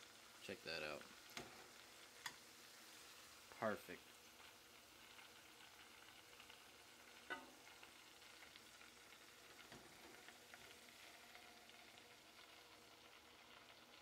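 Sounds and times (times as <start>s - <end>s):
fish deep-frying in hot oil: 0.0s - 14.0s.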